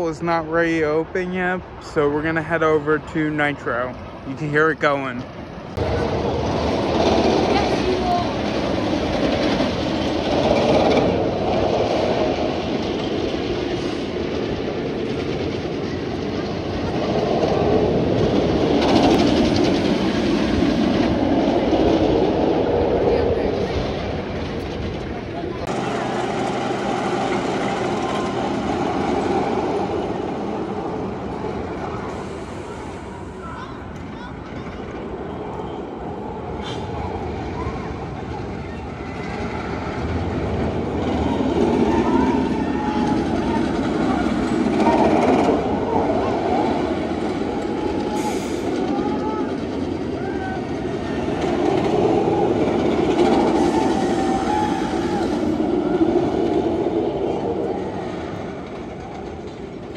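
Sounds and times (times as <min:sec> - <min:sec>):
roller coaster rumble and clatter: 0:00.0 - 0:59.9.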